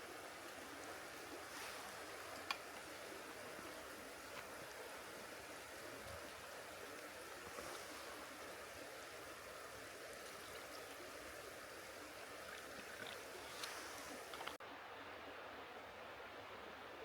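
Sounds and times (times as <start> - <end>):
mountain stream running: 0.0 - 17.0.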